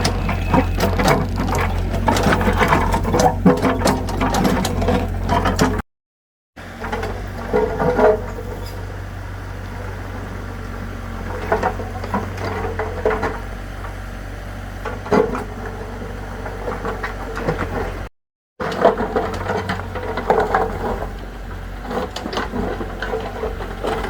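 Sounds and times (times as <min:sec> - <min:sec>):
tractor engine running: 0:00.0 - 0:05.8, 0:06.6 - 0:24.0.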